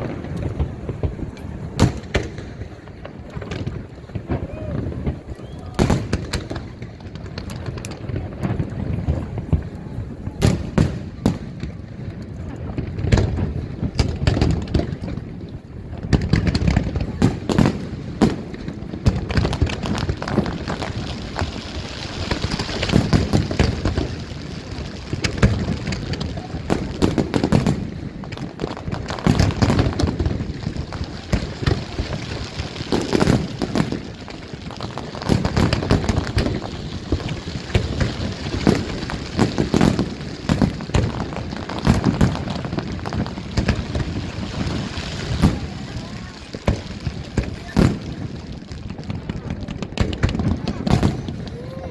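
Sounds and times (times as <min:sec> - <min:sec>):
firework shells booming: 0:00.0 - 0:51.7
fireworks crackling: 0:00.0 - 0:51.9.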